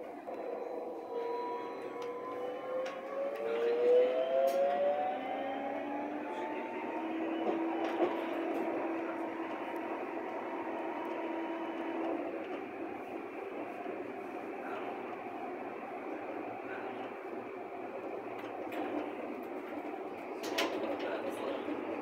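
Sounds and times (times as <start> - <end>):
train traction motor whine: 0.0 - 22.0
train wheels rolling: 0.0 - 22.0.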